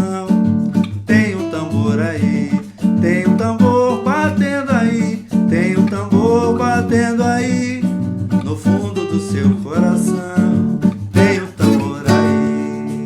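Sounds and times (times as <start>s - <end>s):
acoustic guitar strummed: 0.0s - 13.0s.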